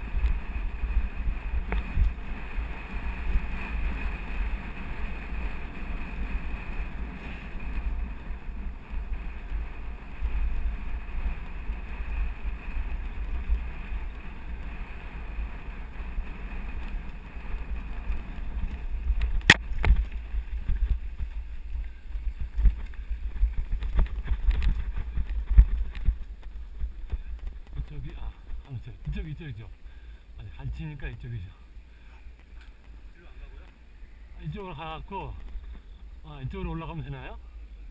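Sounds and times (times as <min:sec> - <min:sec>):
wind buffeting microphone: 0:00.0 - 0:36.9
bike rumble and rattle: 0:00.0 - 0:37.9.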